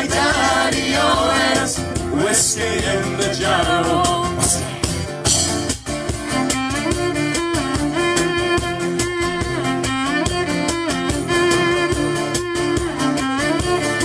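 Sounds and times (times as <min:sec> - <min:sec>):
strummed acoustic guitars: 0:00.0 - 0:14.0.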